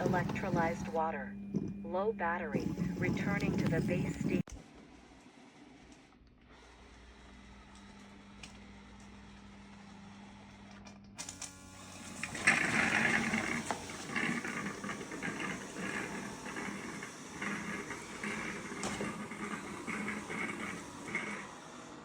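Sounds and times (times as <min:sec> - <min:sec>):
robot vacuum motor: 0:00.0 - 0:22.0.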